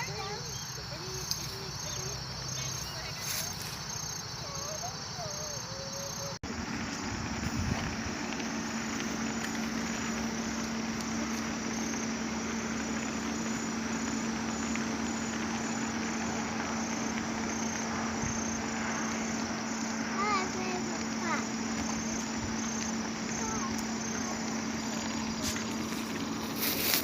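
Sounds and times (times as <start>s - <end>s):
constant rushing noise: 0.0s - 27.0s
insects chirping: 0.0s - 27.0s
steady low hum: 0.0s - 27.0s.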